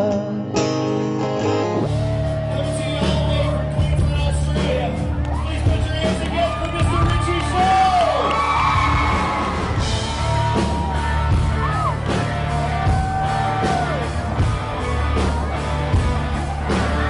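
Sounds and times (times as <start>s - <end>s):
country rock band playing: 0.0s - 17.0s.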